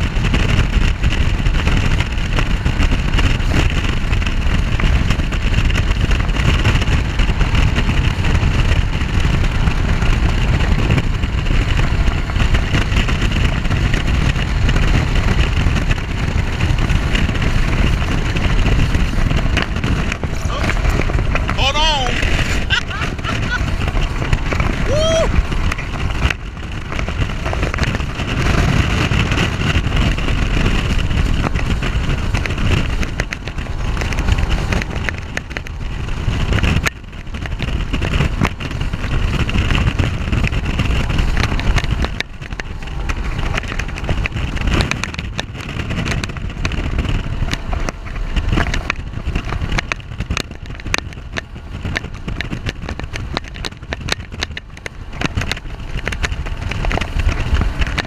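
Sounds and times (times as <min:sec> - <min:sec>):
boat outboard engine at speed: 0:00.0 - 0:58.0.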